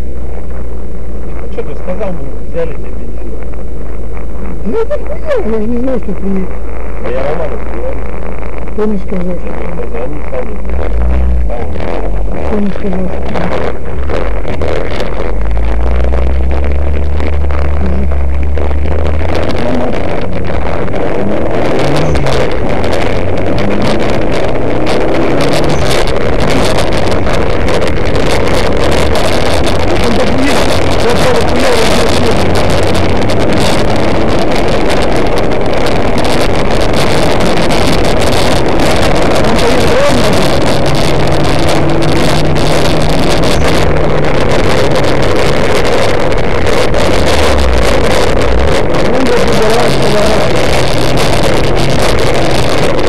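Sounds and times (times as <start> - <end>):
car engine under load: 0.0 - 53.0
tyre and wind noise: 3.2 - 53.0.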